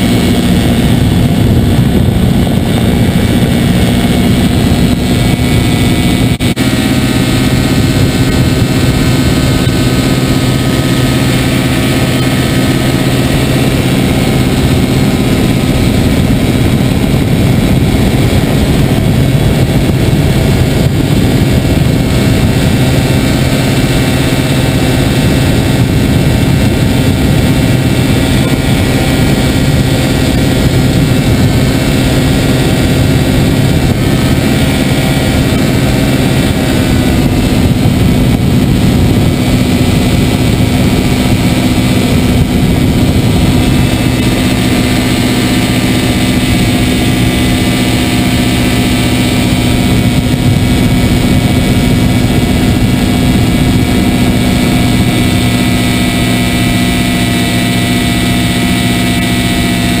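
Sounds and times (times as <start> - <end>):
motor and propeller droning: 0.0 - 60.0.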